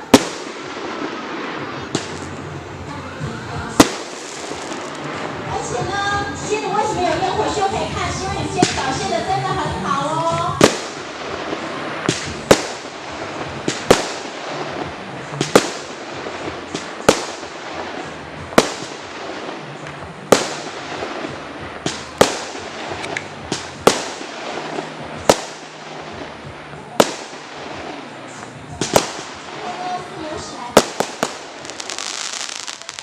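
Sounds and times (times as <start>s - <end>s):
fireworks bangs: 0.0s - 33.0s
fireworks crackle: 0.0s - 33.0s.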